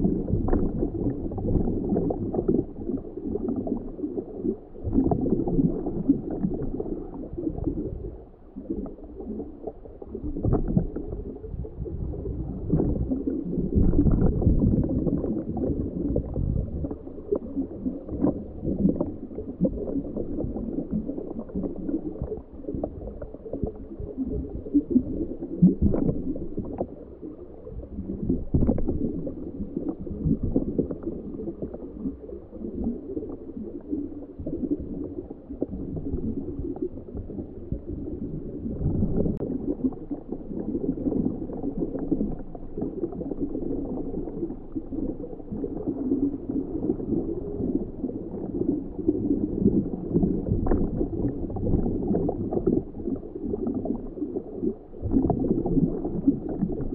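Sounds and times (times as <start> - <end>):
water gurgling and bubbling underwater: 0.0 - 56.9.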